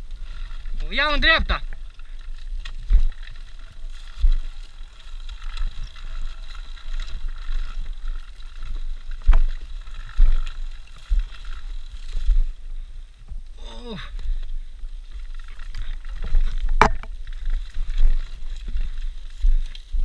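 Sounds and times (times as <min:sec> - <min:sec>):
motorcycle rumbling over rough ground: 0:00.0 - 0:20.0.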